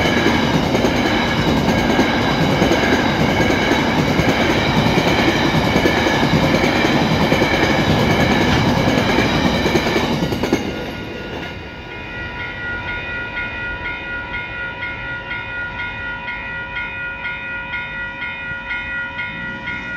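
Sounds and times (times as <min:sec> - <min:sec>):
crossing warning bells ringing: 0:00.0 - 0:19.9.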